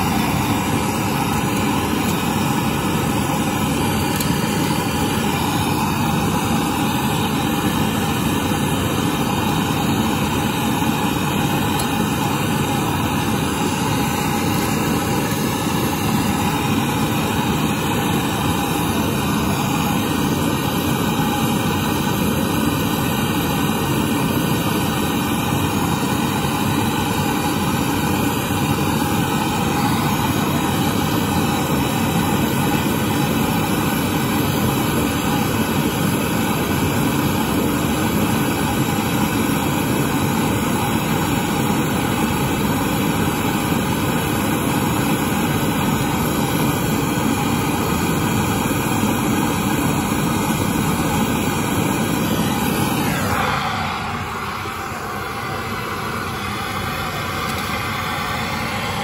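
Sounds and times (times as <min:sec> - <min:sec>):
gas torch flame rushing: 0:00.0 - 0:59.0.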